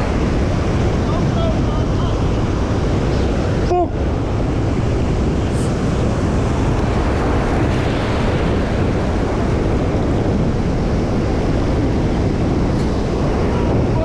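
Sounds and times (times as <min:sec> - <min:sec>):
surf washing on shore: 0:00.0 - 0:14.0
wind buffeting microphone: 0:00.0 - 0:14.0.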